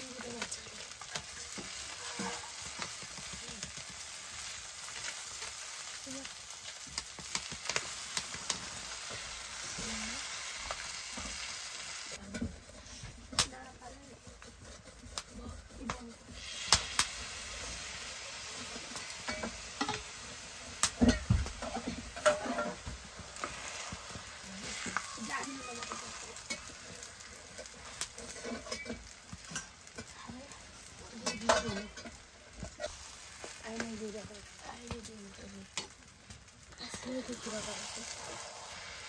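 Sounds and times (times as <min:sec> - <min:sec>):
ladle scraping a wok: 0:00.0 - 0:39.0
noodles sizzling in a wok: 0:00.0 - 0:39.0.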